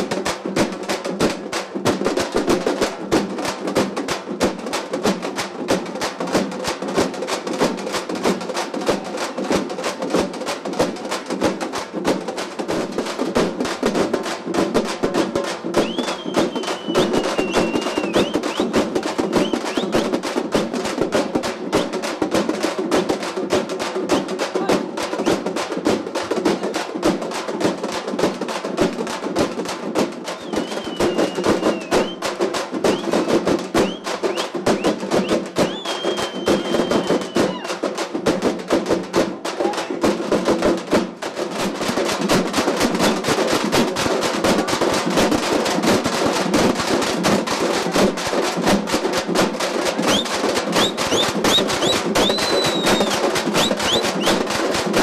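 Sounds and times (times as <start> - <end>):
frame drums beaten with sticks: 0.0 - 55.0.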